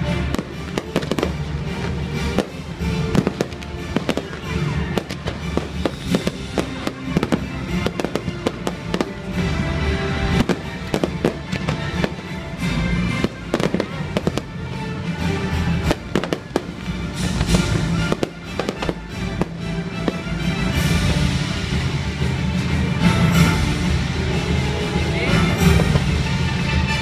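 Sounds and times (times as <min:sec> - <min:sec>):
firework bursts and crackles: 0:00.0 - 0:27.0
loud music: 0:00.0 - 0:27.0.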